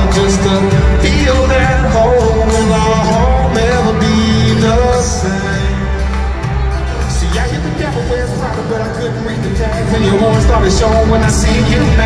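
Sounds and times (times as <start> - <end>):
live band over sound system: 0.0 - 12.0
person singing: 0.0 - 12.0.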